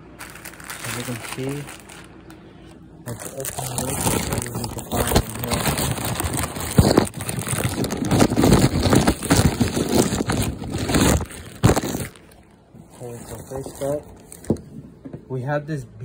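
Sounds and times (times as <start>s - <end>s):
plastic bag rustling: 0.0s - 14.7s.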